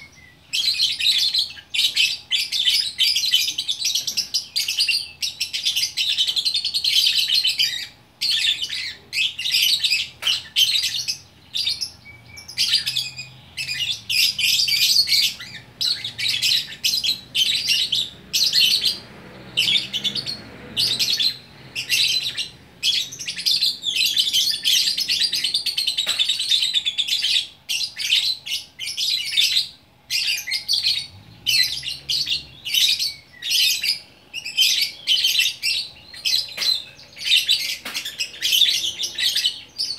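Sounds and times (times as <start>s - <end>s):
lovebird chattering song: 0.0s - 39.9s.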